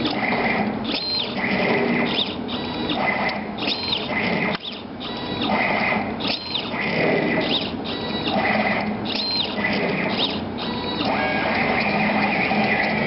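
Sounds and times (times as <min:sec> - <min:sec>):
drive motors whining: 0:00.0 - 0:13.0.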